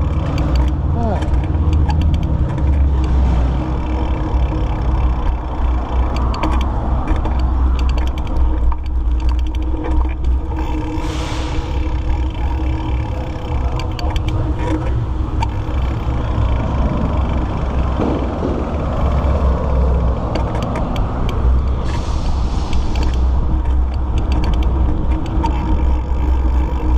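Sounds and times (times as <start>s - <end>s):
bike clicks and rattles: 0.0s - 26.9s
wind and road rumble: 0.0s - 26.9s.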